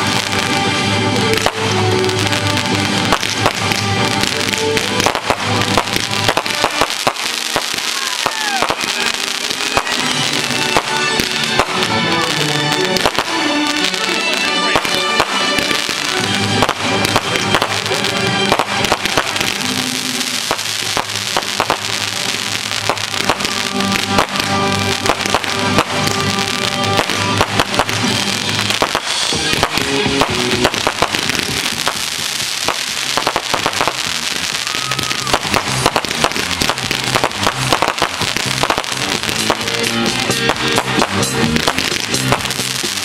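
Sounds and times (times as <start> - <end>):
fireworks cracking and popping: 0.0 - 43.0
music playing: 0.0 - 43.0.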